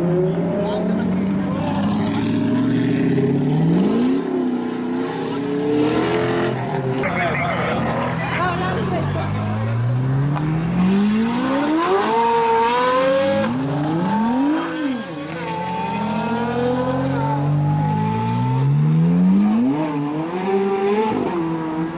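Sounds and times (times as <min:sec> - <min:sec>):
sports car accelerating: 0:00.0 - 0:21.9.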